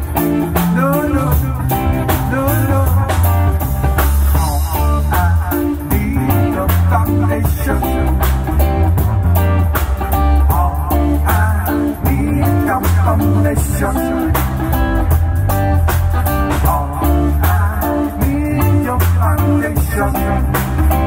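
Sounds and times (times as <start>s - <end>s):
drum kit: 0.0s - 21.0s
electric guitar bending notes: 0.0s - 21.0s
low bass line: 0.0s - 21.0s.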